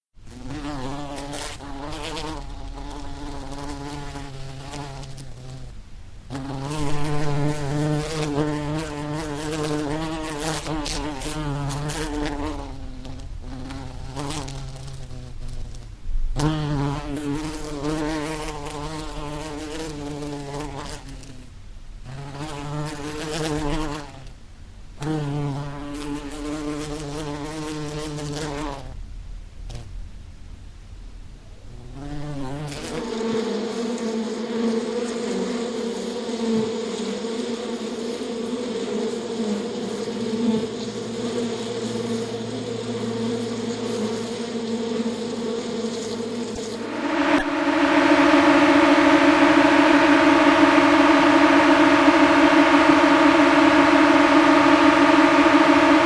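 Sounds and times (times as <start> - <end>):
bee buzzing in flight: 0.2 - 24.4, 25.0 - 29.0, 31.6 - 56.0.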